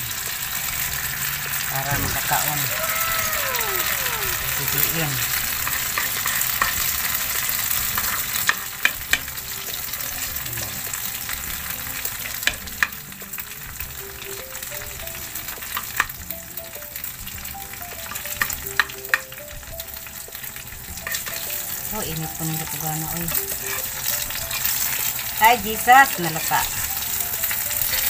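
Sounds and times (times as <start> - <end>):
batter sizzling in oil: 0.0 - 28.0.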